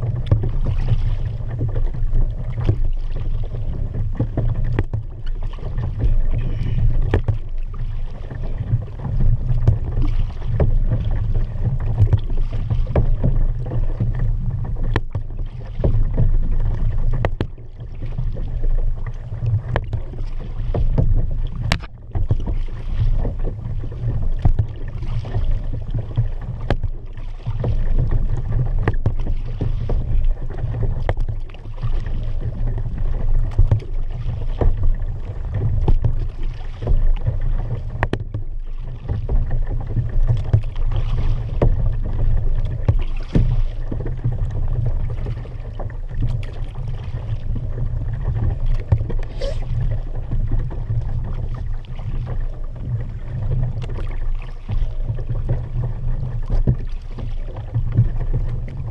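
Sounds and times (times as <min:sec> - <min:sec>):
paddle knocking against boat: 0:00.0 - 0:58.9
paddle water splashing against hull: 0:00.0 - 0:58.9
steady low rumble: 0:00.0 - 0:58.9.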